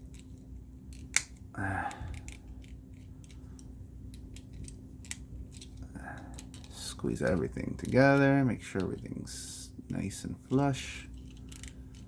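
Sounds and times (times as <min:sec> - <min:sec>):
plastic parts clicking and snapping: 0:00.0 - 0:09.1, 0:09.9 - 0:12.0.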